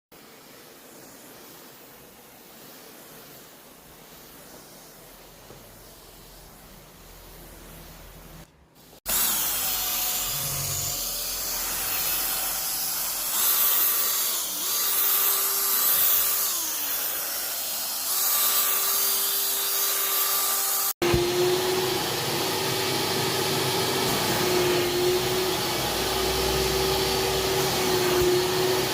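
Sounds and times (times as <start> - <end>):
vacuum cleaner whine and rush: 0.2 - 28.9.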